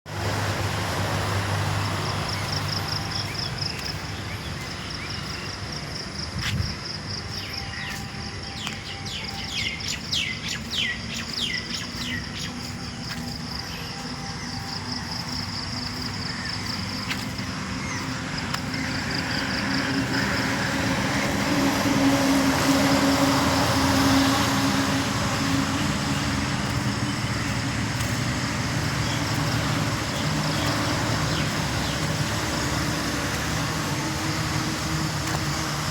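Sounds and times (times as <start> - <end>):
motor vehicle passing: 0.1 - 5.2, 9.2 - 35.9
birds chirping: 1.7 - 35.9.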